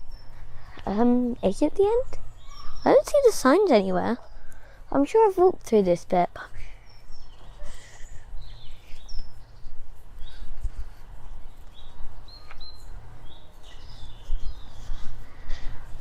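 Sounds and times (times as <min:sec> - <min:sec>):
birds singing and chirping: 0:00.0 - 0:04.9, 0:06.5 - 0:16.0.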